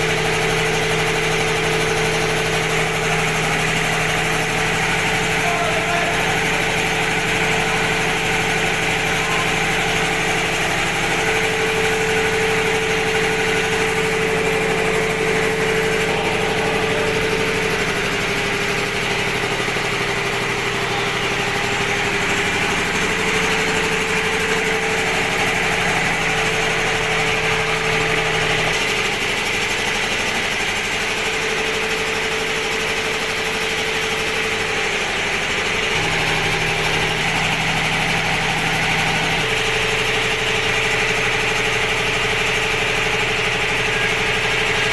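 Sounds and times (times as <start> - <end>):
air compressor running: 0.0 - 44.9.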